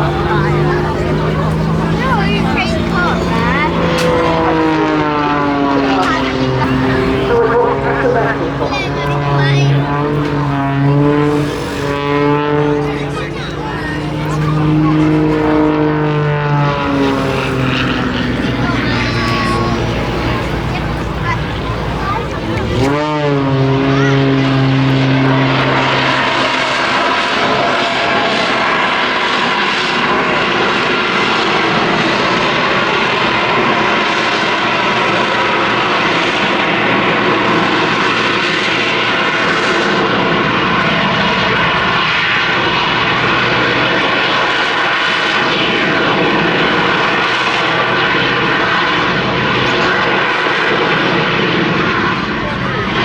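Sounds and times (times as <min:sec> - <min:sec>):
aircraft engine noise: 0:00.0 - 0:53.0.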